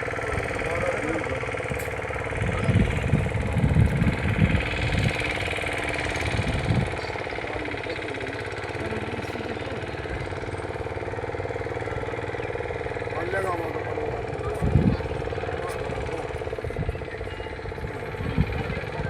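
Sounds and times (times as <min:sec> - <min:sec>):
low buffeting thuds: 0:00.0 - 0:19.0
small engine running: 0:00.0 - 0:19.0.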